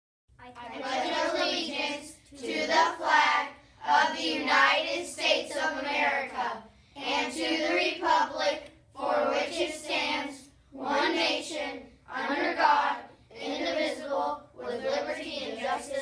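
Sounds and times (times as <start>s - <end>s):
children reciting in unison: 0.6s - 16.0s.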